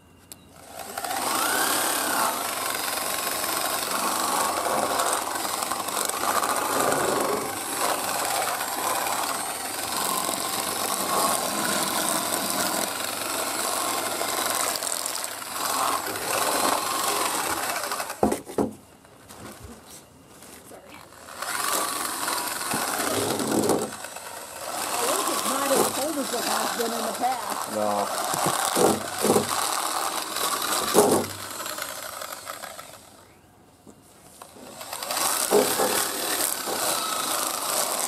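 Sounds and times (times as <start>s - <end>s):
electric drill driven plucker running: 0.6s - 18.3s, 21.1s - 33.2s, 34.4s - 38.0s.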